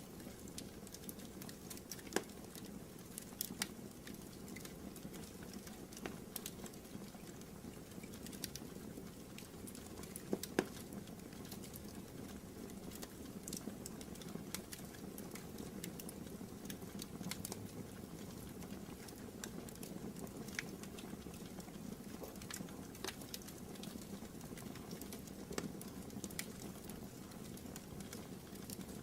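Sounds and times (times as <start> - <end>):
low rumble of fire: 0.0 - 29.0
wood fire crackling and popping: 0.0 - 29.0.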